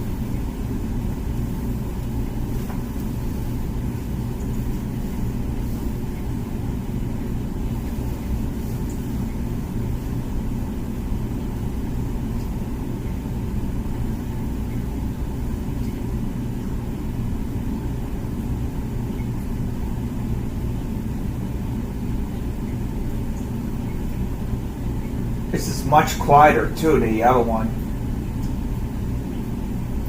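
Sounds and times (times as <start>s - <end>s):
dishwasher pump humming: 0.0s - 30.0s
water circulating: 0.0s - 30.0s.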